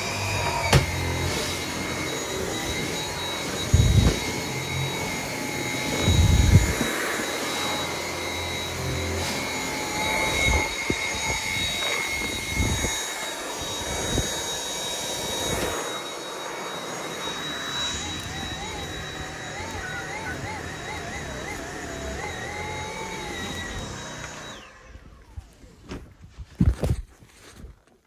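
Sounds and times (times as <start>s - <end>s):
stick vacuum whining: 0.0s - 27.6s.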